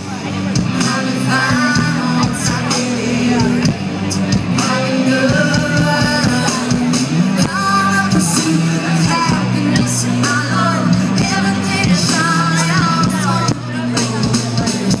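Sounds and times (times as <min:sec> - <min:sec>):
bass: 0:00.0 - 0:15.0
guitar: 0:00.0 - 0:15.0
steady drum beat: 0:00.0 - 0:15.0
woman singing: 0:00.6 - 0:15.0.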